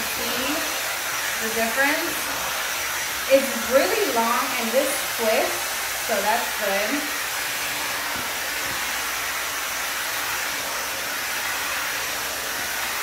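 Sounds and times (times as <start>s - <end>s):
blow dryer brush air rushing: 0.0s - 13.0s.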